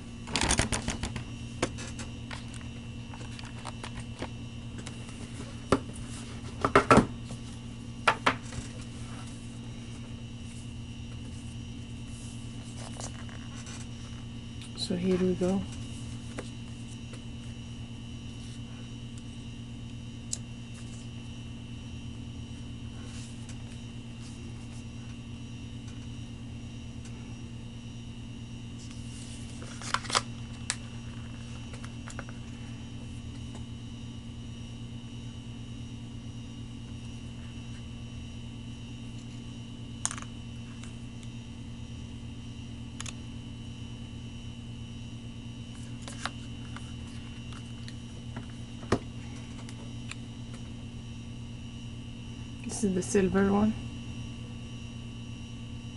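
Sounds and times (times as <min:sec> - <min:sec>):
low hum with high whine: 0:00.0 - 0:55.9.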